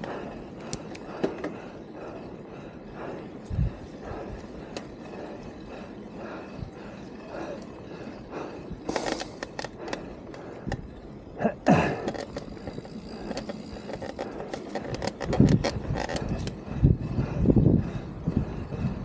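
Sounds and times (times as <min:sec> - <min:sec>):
bike clacking and rattling: 0:00.0 - 0:19.0
bike tyres rolling on dirt trail: 0:00.0 - 0:19.0
wind buffeting microphone: 0:00.0 - 0:19.0.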